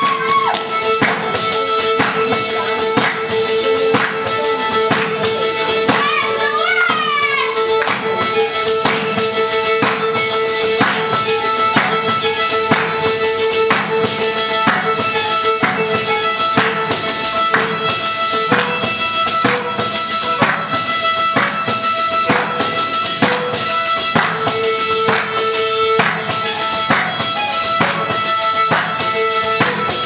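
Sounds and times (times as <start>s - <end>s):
frame drum beating: 0.0s - 30.0s
violin melody: 0.0s - 30.0s.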